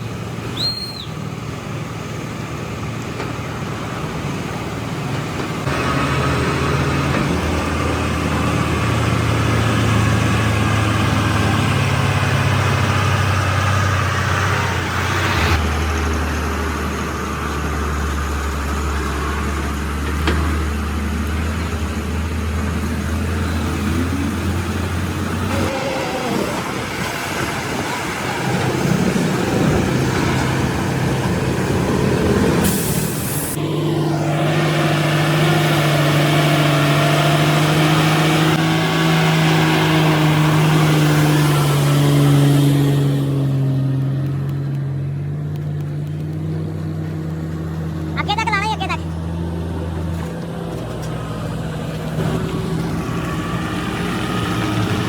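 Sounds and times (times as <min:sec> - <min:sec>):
truck diesel engines running: 0:00.0 - 0:55.0.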